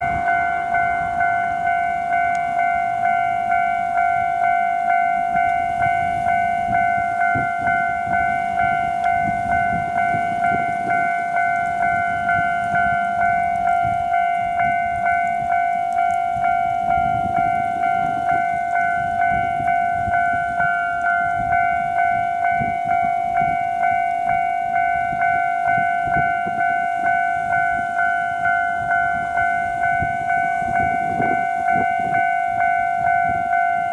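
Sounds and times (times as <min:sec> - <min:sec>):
level-crossing alarm ringing: 0:00.0 - 0:33.9.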